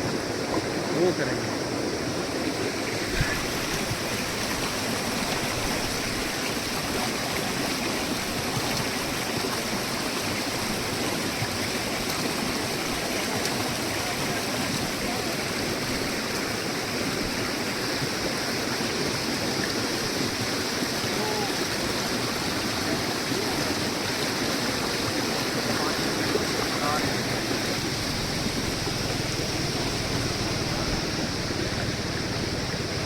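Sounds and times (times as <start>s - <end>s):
rush of flowing water: 0.0s - 33.0s.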